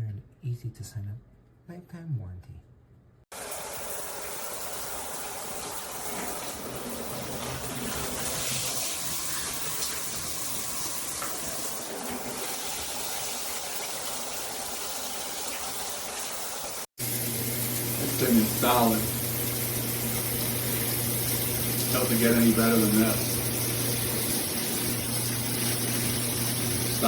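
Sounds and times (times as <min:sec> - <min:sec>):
water spraying from shower head: 0:03.3 - 0:27.0.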